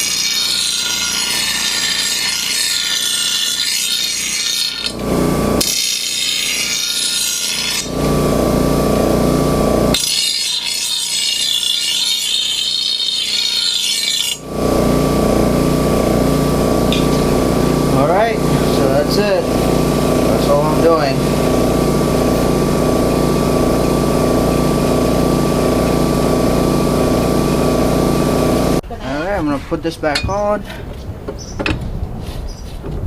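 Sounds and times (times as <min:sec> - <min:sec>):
grinder grinding steel blade: 0:00.0 - 0:28.8
grinder motor humming: 0:00.0 - 0:28.8.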